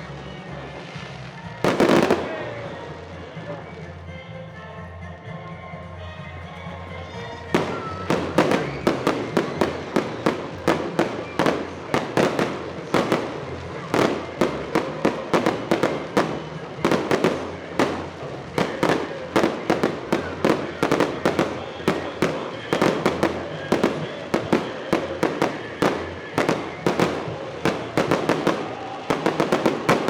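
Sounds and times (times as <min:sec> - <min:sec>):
fireworks bangs: 0:00.6 - 0:03.9, 0:06.9 - 0:30.0.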